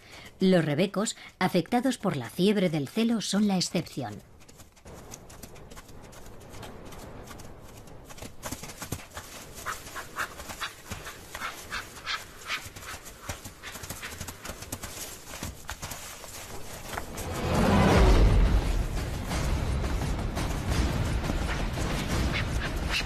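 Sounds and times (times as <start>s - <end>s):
hoofbeats galloping on turf: 3.3s - 23.0s.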